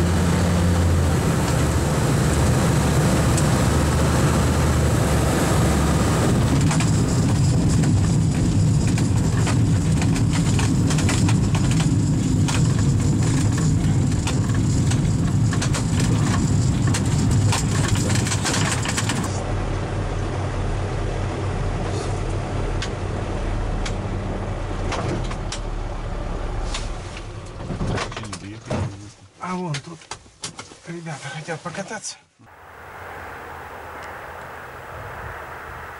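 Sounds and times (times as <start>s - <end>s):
light aircraft engines running: 0.0s - 27.6s, 32.5s - 35.9s.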